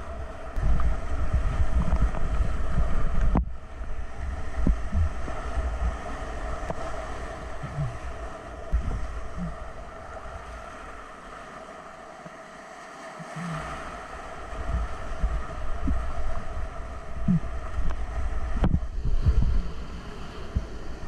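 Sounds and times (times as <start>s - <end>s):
wind buffeting microphone: 0.0s - 10.6s, 14.5s - 21.0s.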